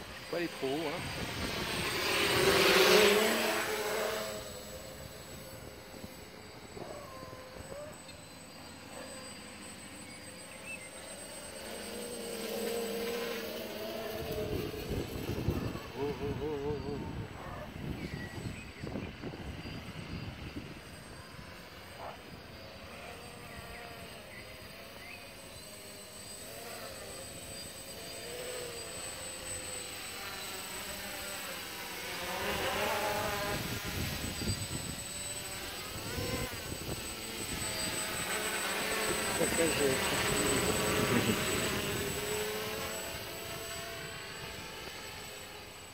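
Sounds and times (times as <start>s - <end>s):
drone propellers buzzing: 0.0s - 45.9s.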